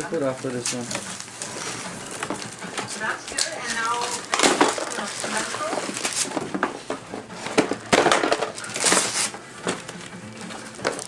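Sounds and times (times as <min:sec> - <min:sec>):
wrapping paper tearing and crumpling: 0:00.2 - 0:11.0.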